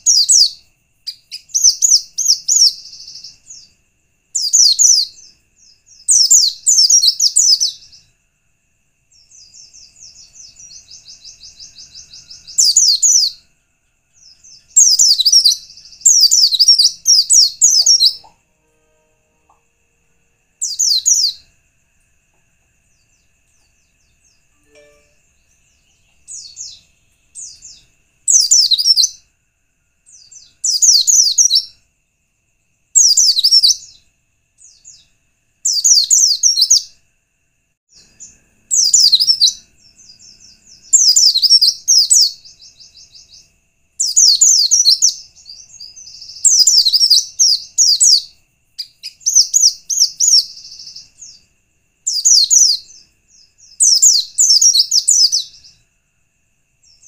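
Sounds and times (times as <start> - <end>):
bird twittering song: 0.0 - 8.2, 9.0 - 18.5, 20.5 - 21.6, 22.8 - 29.3, 30.0 - 31.8, 33.0 - 37.0, 37.9 - 55.8.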